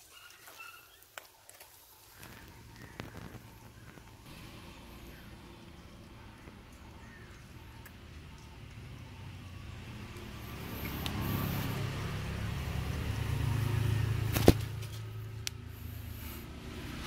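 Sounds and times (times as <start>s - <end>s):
passing motor vehicle rumble: 2.1s - 17.0s.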